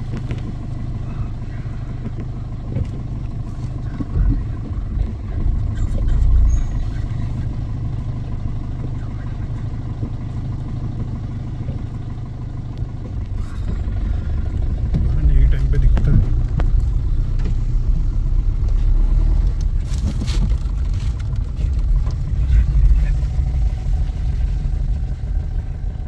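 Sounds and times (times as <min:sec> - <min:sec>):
low rumbles: 0:00.0 - 0:26.0
vehicle engine humming: 0:00.0 - 0:26.0.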